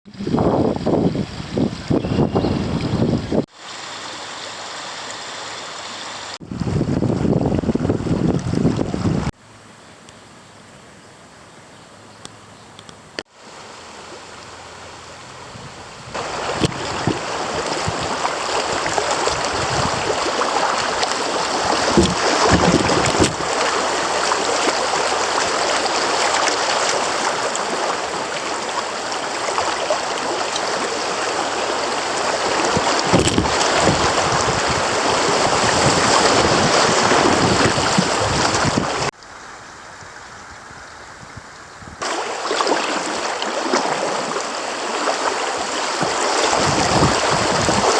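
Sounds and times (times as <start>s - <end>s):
rushing creek water: 0.0s - 9.6s, 13.0s - 47.9s.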